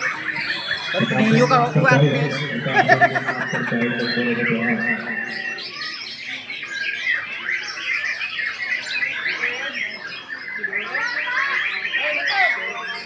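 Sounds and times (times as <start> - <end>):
birds singing whistles and chirps: 0.0 - 13.0.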